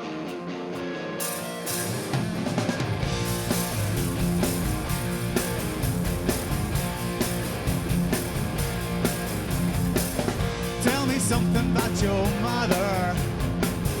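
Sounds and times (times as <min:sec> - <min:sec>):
electric guitars: 0:00.0 - 0:14.0
bass guitar: 0:01.2 - 0:14.0
drum kit: 0:01.2 - 0:14.0.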